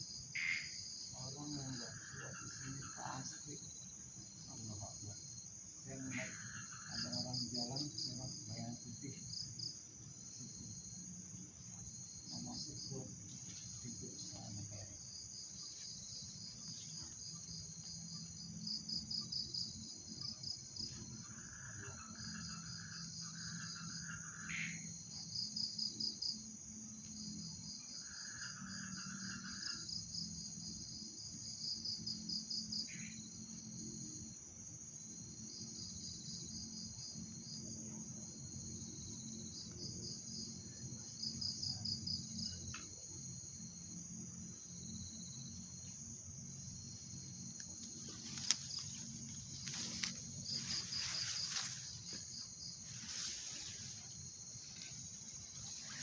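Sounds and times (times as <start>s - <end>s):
crickets trilling: 0.0s - 56.0s
low insect buzzing call: 0.0s - 56.0s
pulsing insect chirp: 0.0s - 56.0s.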